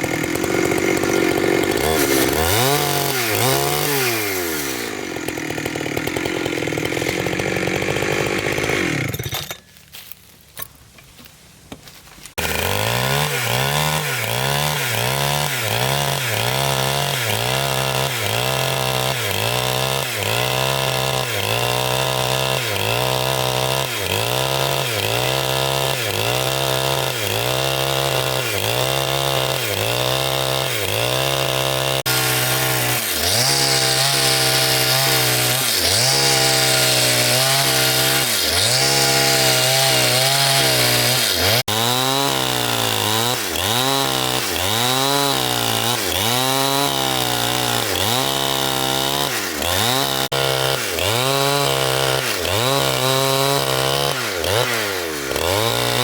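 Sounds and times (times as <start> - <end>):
chainsaw cutting wood: 0.0 - 10.7, 12.2 - 56.0.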